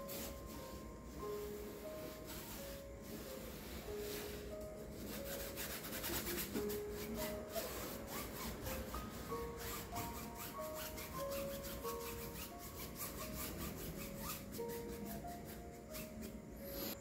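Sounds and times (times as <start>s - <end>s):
paintbrush scrubbing on canvas: 0.0s - 17.0s
soft background music: 0.0s - 17.0s.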